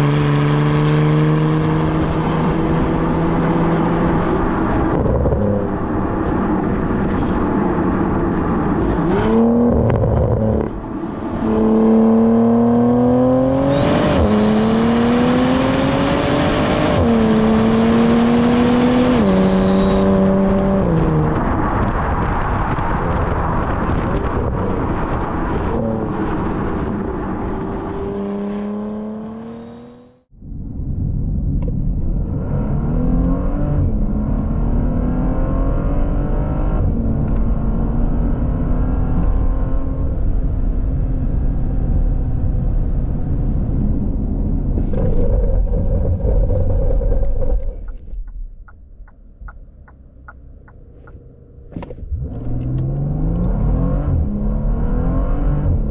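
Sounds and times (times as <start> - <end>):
car engine accelerating: 0.0 - 30.3, 32.1 - 55.9.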